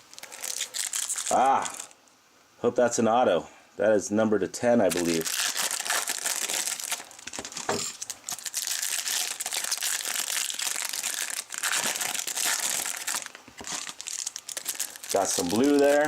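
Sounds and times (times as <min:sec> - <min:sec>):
foil wrappers tearing and crinkling: 0:00.0 - 0:02.0, 0:04.9 - 0:16.0.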